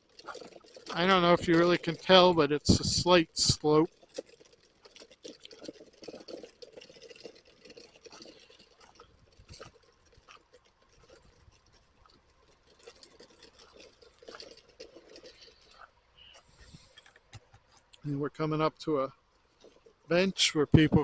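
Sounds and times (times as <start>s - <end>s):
chair rattling: 0.0s - 17.9s
wheels crunching on trail: 0.0s - 21.0s.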